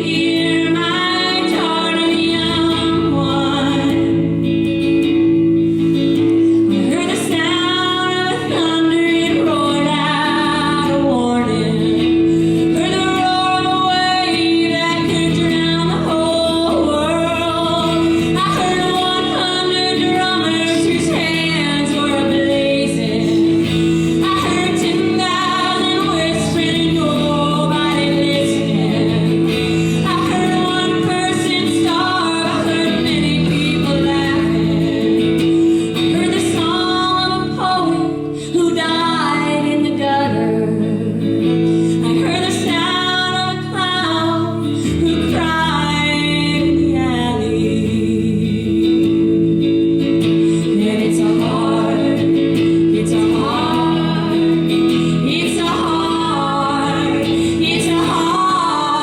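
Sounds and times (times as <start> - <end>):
guitar accompaniment: 0.0 - 59.0
woman singing folk ballad: 0.0 - 59.0.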